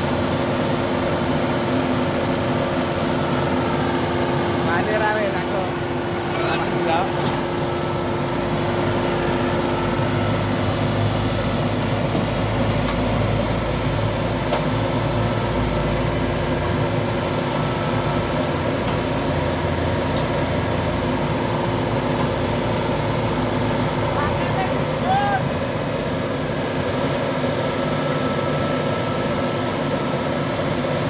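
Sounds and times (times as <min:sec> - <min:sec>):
heavy machine engine humming: 0:00.0 - 0:31.0.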